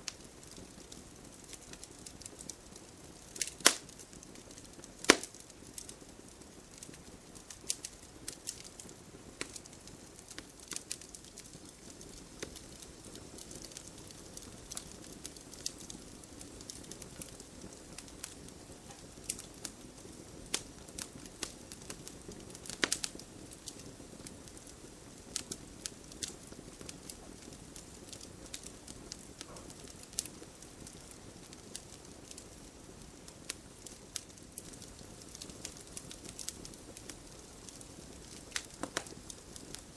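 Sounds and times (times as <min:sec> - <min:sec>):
fire crackling and popping: 0:00.0 - 0:39.9
campfire flames rushing: 0:00.1 - 0:39.9.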